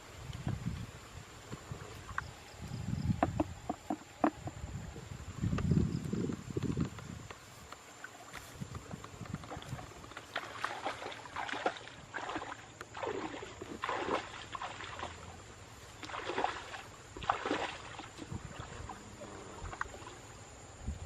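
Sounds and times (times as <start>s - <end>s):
water splashing and sloshing: 0.0s - 20.6s.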